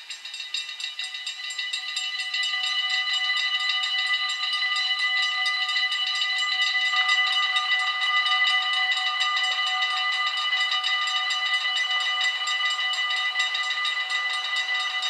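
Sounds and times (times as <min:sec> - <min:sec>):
level crossing warning bells ringing: 0:00.0 - 0:15.0.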